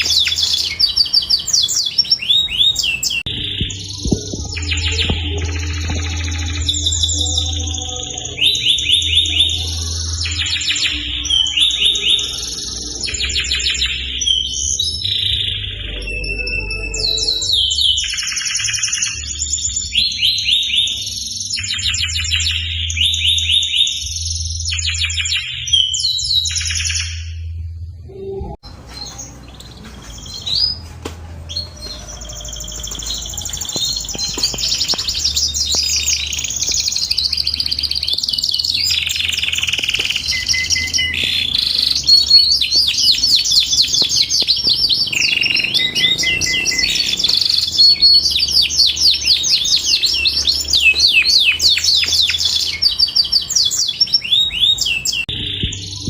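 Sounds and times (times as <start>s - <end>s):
canary singing trills: 0.0s - 27.5s, 28.1s - 56.0s.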